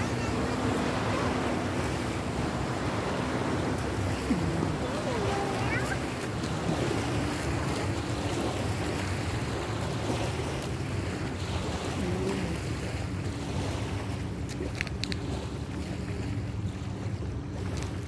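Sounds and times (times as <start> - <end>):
water lapping on concrete shore: 0.0 - 18.0.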